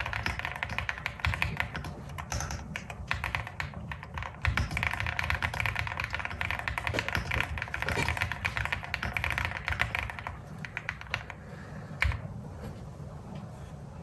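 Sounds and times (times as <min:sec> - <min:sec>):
mechanical keyboard typing: 0:00.0 - 0:12.3.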